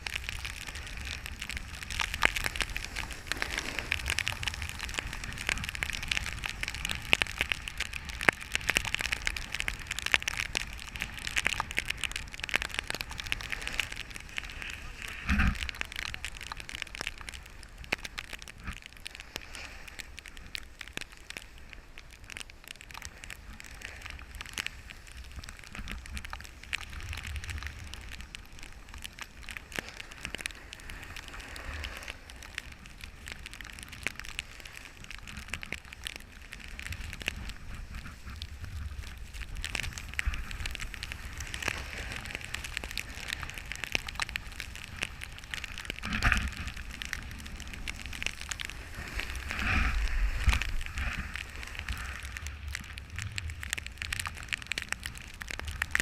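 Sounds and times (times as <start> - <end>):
low wind rumble: 0.0 - 56.0
small clicks: 0.0 - 56.0
wind and snow crackling on camera: 0.0 - 56.0.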